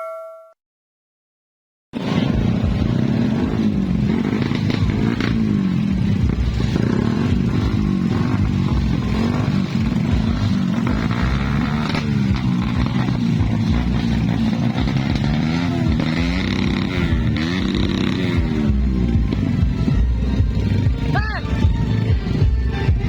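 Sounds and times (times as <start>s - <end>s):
motorcycles revving loudly: 2.0s - 23.0s.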